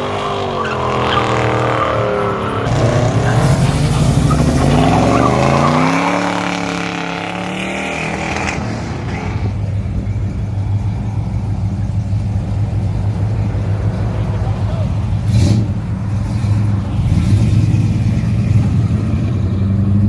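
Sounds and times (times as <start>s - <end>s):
car accelerating hard: 0.0s - 20.0s
car engine rumbling at low revs: 0.0s - 20.0s.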